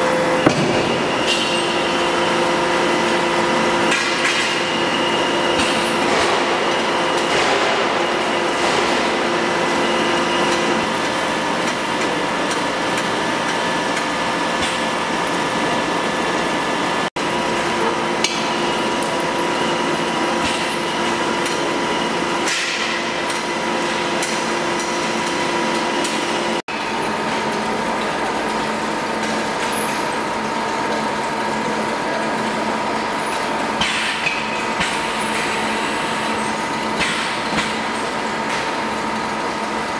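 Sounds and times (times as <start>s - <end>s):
factory machinery din: 0.0s - 39.9s
machine hums: 0.0s - 39.9s.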